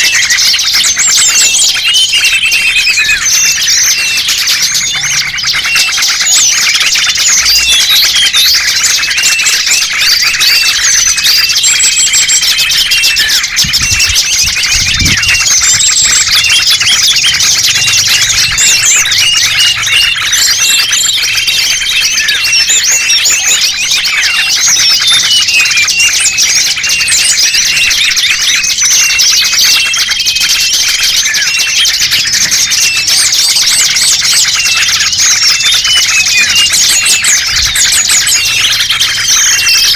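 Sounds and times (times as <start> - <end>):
high whistled bird notes: 0.0 - 39.9
small birds chirping: 0.0 - 39.9.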